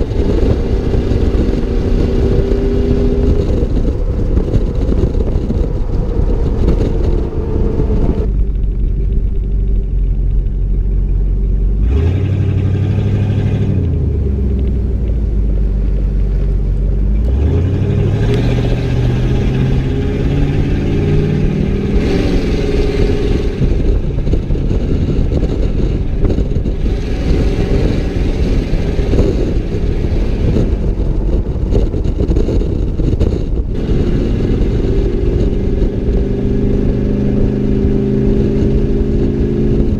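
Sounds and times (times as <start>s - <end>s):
loud vehicle engine exhaust revving: 0.0s - 39.9s.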